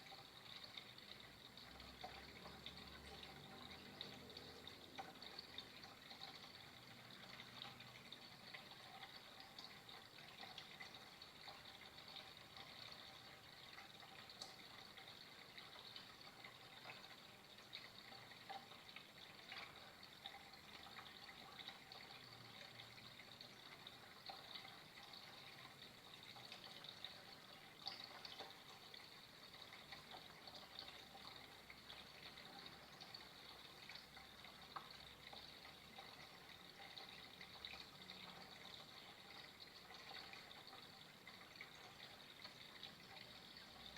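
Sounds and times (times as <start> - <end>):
water drips and splashes: 0.0 - 43.9
water trickling: 0.0 - 43.9.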